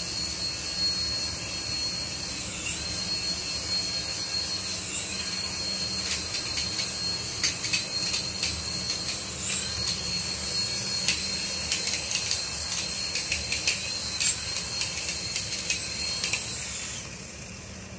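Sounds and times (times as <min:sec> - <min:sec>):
small electric motor whining: 0:00.0 - 0:17.9.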